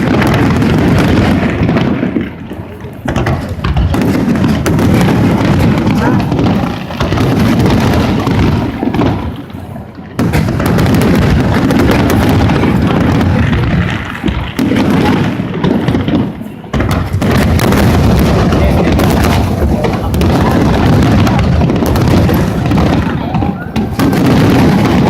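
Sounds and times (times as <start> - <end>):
fireworks bursts and booms: 0.0 - 25.0.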